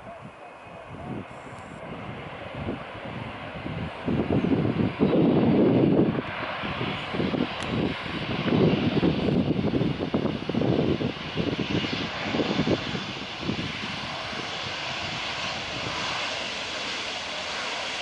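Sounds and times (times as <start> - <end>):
jet engines rushing: 0.0 - 18.0
wind buffeting microphone: 0.0 - 18.0.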